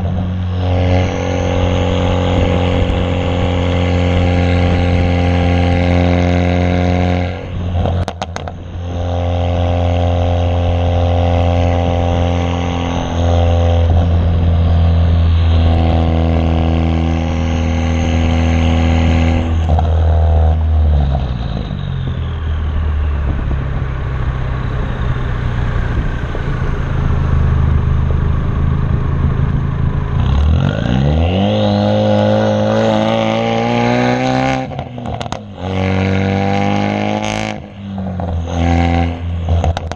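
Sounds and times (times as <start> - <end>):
car exhaust roaring: 0.0 - 39.9
exhaust crackles: 0.0 - 39.9.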